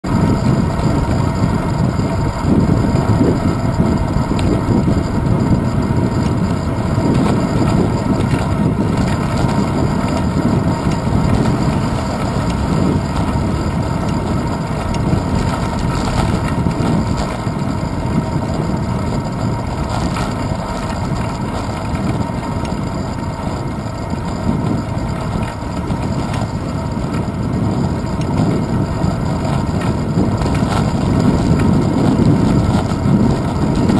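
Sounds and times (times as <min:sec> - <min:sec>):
bicycle road rumble: 0:00.0 - 0:33.9
wind buffeting microphone: 0:00.0 - 0:33.9.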